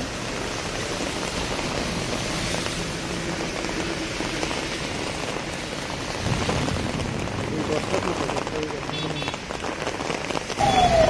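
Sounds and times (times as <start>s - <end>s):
car tyres on wet road: 0.0s - 11.0s
rain hiss: 0.0s - 11.0s.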